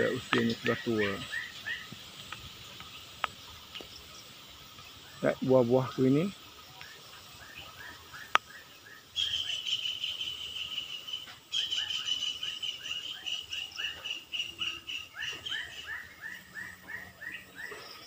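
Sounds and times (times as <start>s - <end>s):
rapidly pulsing buzzing call: 0.0s - 18.0s.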